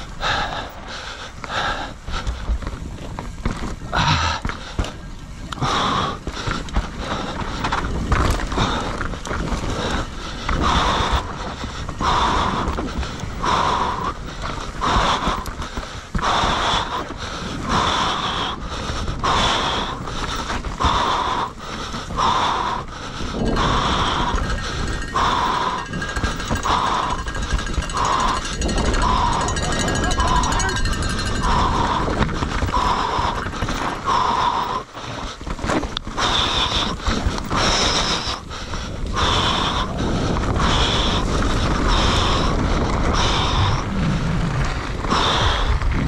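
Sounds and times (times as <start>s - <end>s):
bike knocking and rattling: 0.0s - 46.0s
rider panting hard: 0.0s - 46.0s.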